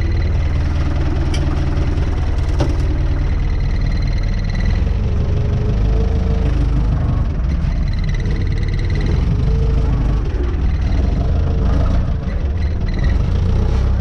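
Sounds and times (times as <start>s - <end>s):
high-pitched pulsing whine: 0.0s - 14.0s
tractor engine running: 0.0s - 14.0s.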